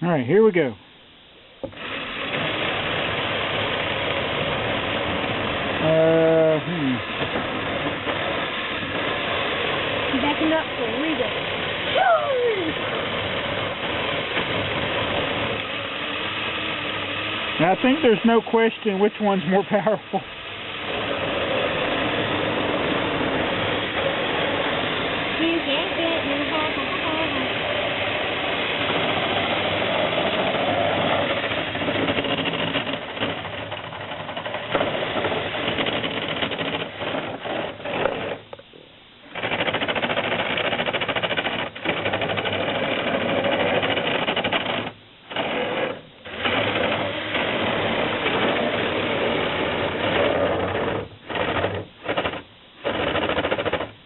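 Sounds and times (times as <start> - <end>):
toy motors and gears whirring: 8.0 - 38.5, 39.3 - 54.0.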